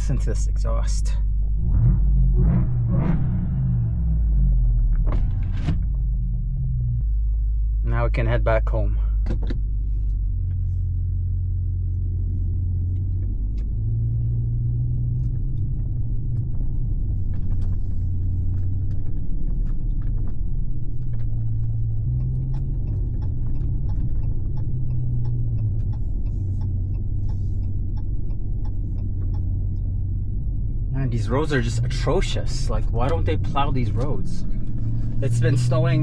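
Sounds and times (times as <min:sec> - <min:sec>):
deep exhaust drone while driving: 0:00.0 - 0:36.0.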